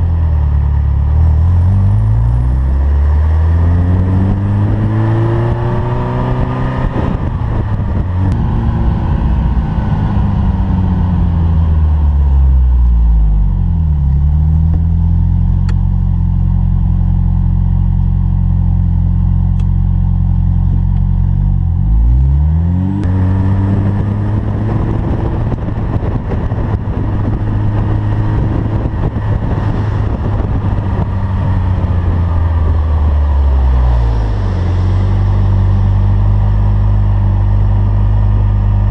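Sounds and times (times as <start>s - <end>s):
car engine revving: 0.0s - 17.2s, 18.9s - 38.9s.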